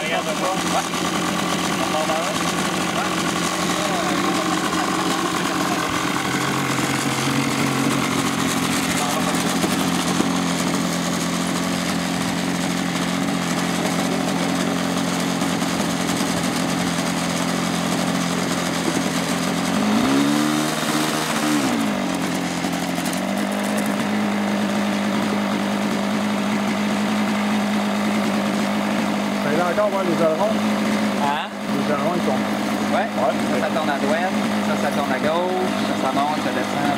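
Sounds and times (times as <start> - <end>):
model engine idling and revving: 0.0 - 36.9.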